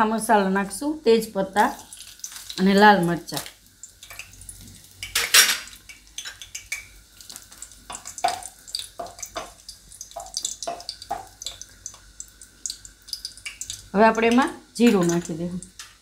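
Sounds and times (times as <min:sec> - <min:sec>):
chillies crackling in hot oil: 0:00.0 - 0:16.0.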